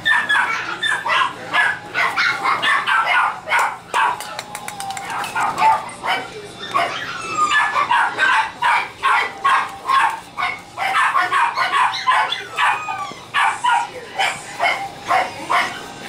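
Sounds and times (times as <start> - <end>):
puppy yapping: 0.0 - 16.0.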